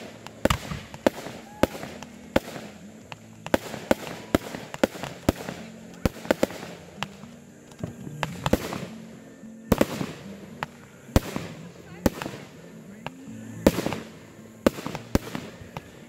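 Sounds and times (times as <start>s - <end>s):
fireworks bangs: 0.0s - 9.0s, 9.6s - 16.0s
fireworks crackling hiss: 0.0s - 16.0s.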